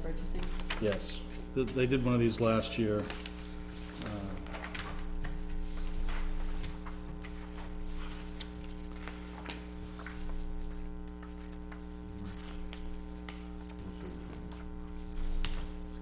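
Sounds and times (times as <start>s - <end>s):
electrical mains hum: 0.0s - 16.0s
paper rustling and clicks: 0.4s - 16.0s.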